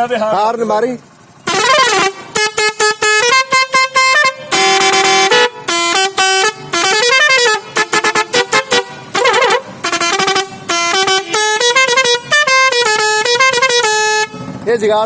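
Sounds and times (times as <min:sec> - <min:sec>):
bus multi-tone horn: 0:01.4 - 0:14.6.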